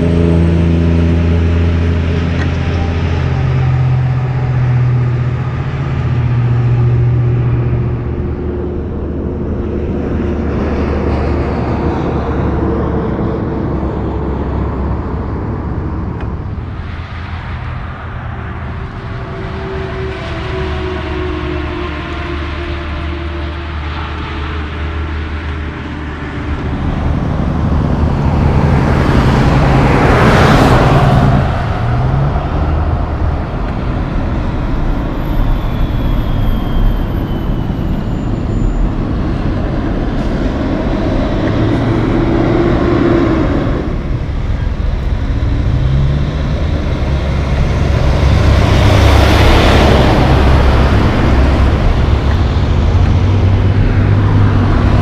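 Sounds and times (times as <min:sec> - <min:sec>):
truck diesel engines droning: 0:00.0 - 0:55.0
tyre and road noise: 0:00.0 - 0:55.0
vehicle passing close: 0:00.0 - 0:55.0.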